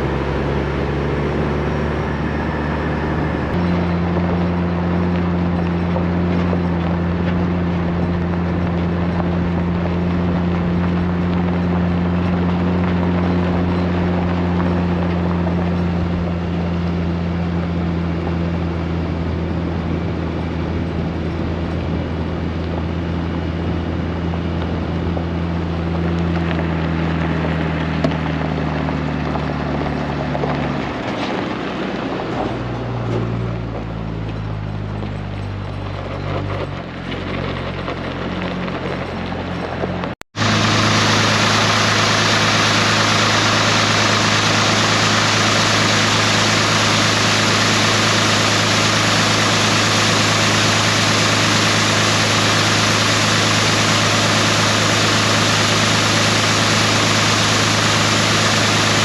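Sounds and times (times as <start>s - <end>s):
farm machinery engine running: 0.0s - 59.0s.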